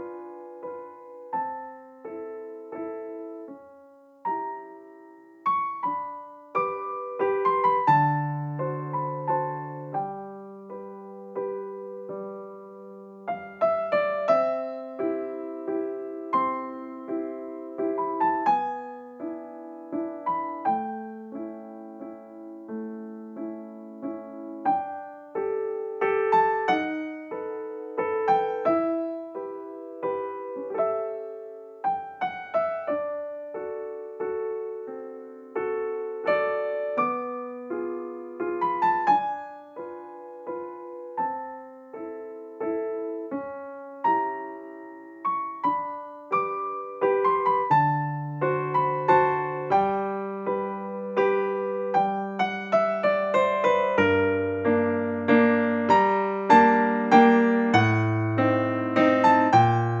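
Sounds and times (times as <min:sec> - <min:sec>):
gentle piano music: 0:00.0 - 1:00.0.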